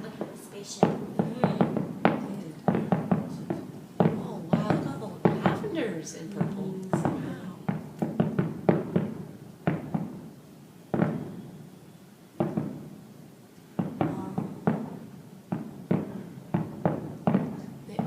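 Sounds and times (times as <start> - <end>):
distant fireworks bursting: 0.0 - 18.0.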